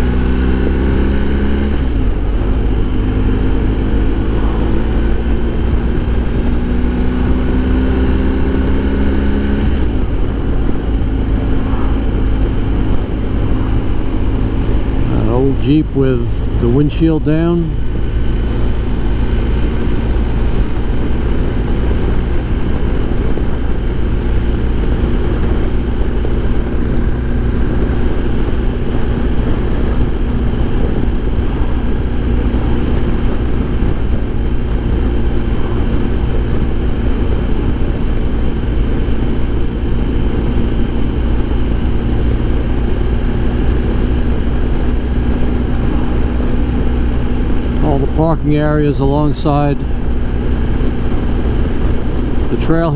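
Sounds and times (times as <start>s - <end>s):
motorcycle engine drone: 0.0s - 52.9s
wind noise: 0.0s - 52.9s.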